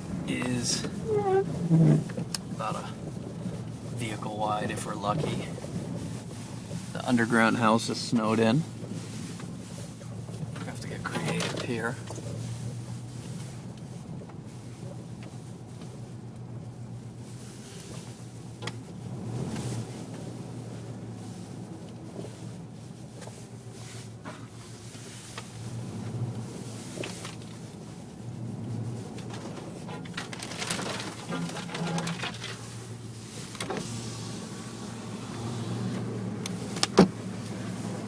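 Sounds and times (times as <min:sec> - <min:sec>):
car engine humming: 0:00.0 - 0:38.0.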